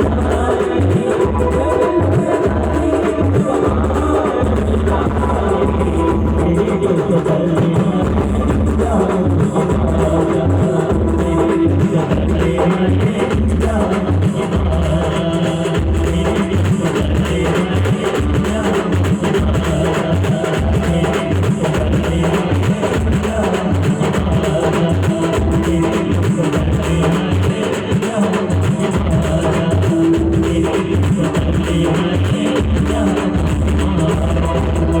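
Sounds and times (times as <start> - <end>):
band music with heavy drum beat: 0.0 - 35.0
person singing: 0.0 - 35.0.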